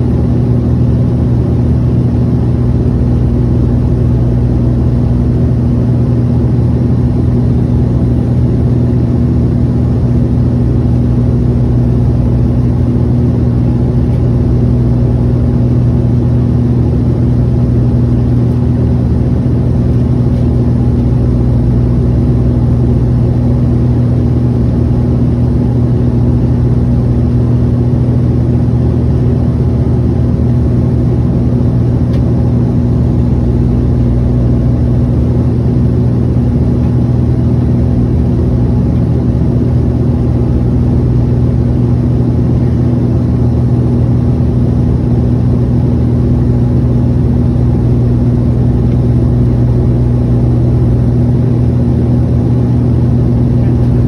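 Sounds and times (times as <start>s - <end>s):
propeller engine droning: 0.0s - 54.0s.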